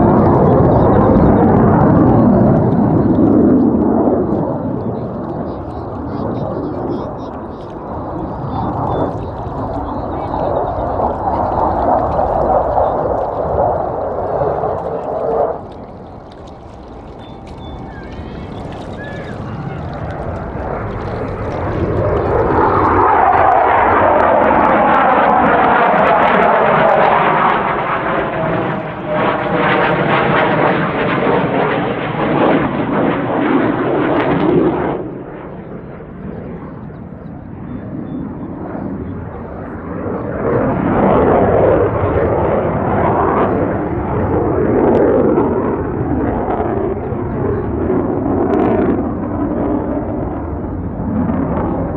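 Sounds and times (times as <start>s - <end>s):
jet engine roar: 0.0s - 51.9s.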